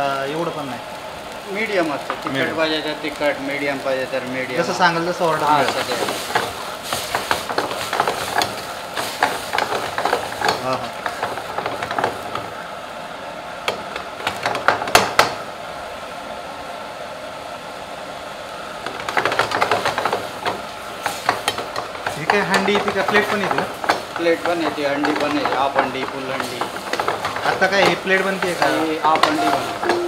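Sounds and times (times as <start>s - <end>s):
curry sizzling: 0.0s - 16.1s, 18.4s - 30.0s.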